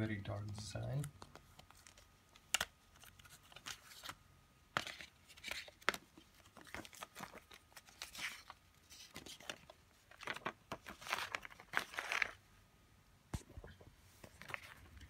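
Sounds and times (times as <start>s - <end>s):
paper booklet rustling: 0.2s - 12.4s, 14.1s - 15.0s.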